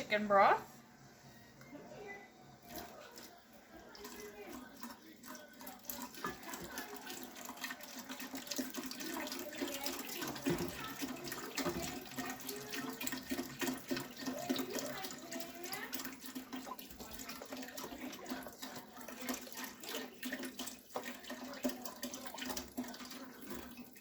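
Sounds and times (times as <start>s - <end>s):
liquid pouring into a pan: 2.6s - 24.0s.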